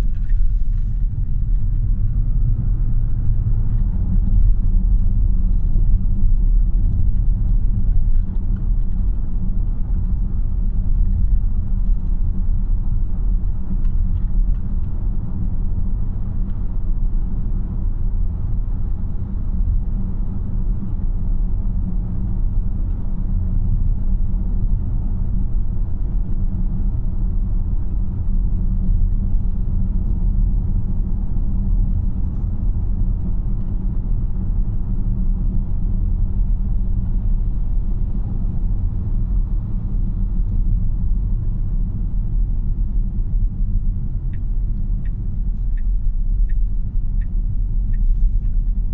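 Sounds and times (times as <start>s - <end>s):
road and tyre rumble in car: 0.0s - 48.9s.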